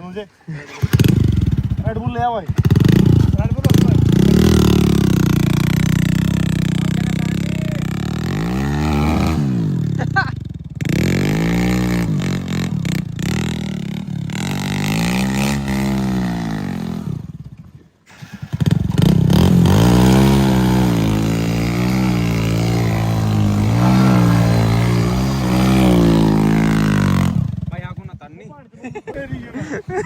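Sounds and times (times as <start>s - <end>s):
diesel engine revving: 0.5s - 17.4s, 18.1s - 27.8s.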